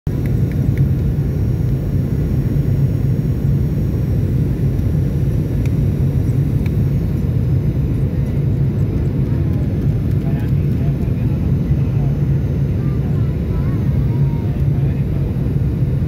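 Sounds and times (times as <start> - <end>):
airplane cabin engine rumble: 0.1 - 16.0.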